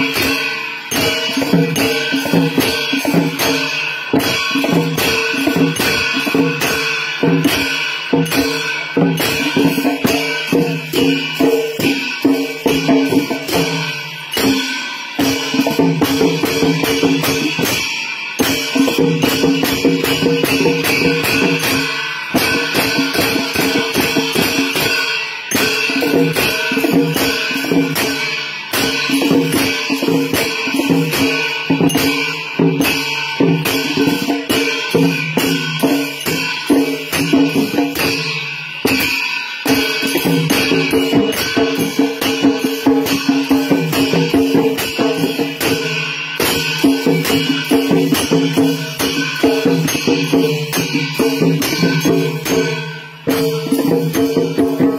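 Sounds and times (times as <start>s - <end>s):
cymbals clashing: 0.0s - 54.9s
fast drum beating: 0.0s - 54.9s.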